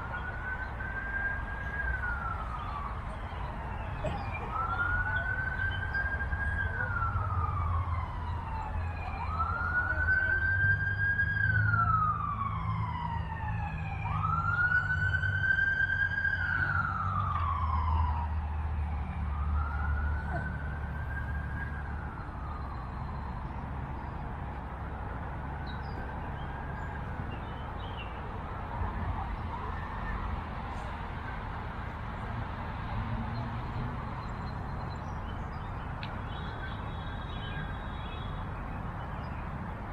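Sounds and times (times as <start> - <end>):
emergency vehicle siren wailing: 0.0 - 39.9.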